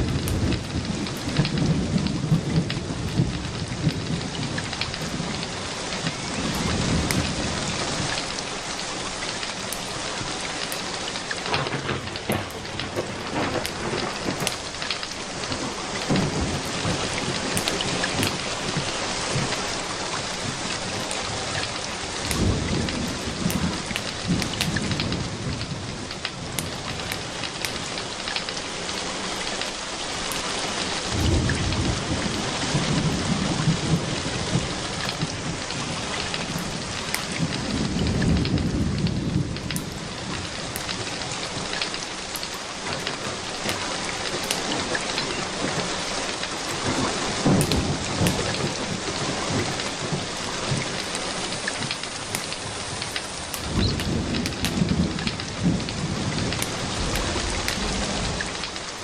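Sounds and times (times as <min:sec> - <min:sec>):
crackling wood fire: 0:00.0 - 0:59.0
low thunder rumbles: 0:00.0 - 0:59.0
steady rain: 0:00.0 - 0:59.0.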